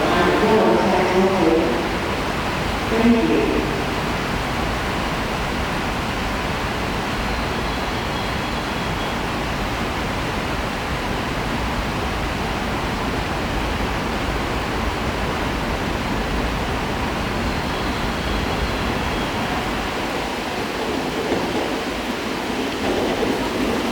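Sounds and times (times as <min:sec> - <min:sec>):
train station platform noise: 0:00.0 - 0:23.9.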